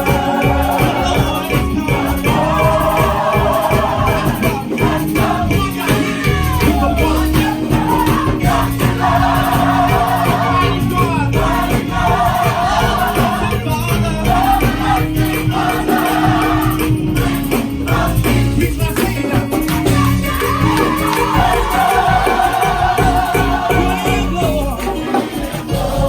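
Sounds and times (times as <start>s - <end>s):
gospel choir singing: 0.0s - 26.0s
live band playing: 0.0s - 26.0s
steady bass notes: 0.0s - 26.0s.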